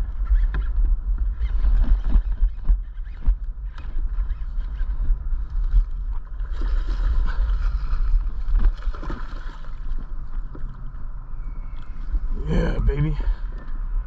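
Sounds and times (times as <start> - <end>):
wind rumble on microphone: 0.0 - 14.0
water splashing around a boat: 0.1 - 14.0.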